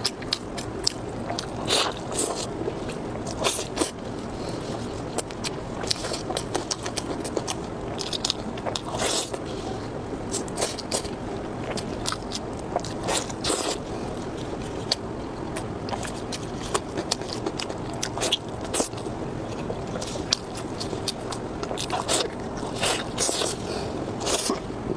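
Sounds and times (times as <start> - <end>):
wet chewing and mouth clicks: 0.0 - 24.9.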